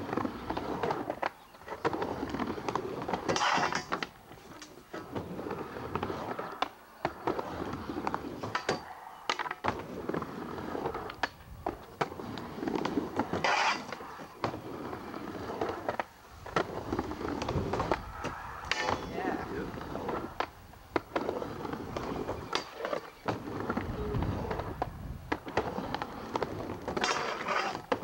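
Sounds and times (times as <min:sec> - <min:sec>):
skateboard wheels rolling: 0:00.0 - 0:28.0.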